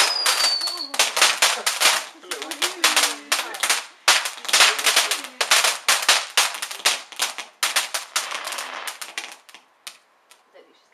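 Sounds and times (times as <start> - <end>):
fireworks cracking and banging: 0.0 - 10.4.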